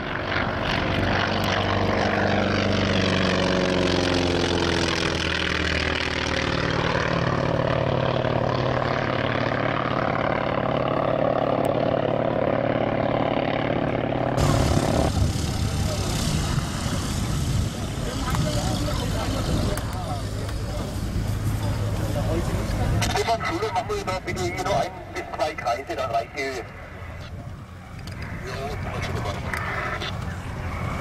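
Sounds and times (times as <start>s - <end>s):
propeller aircraft flying past: 0.0s - 31.0s.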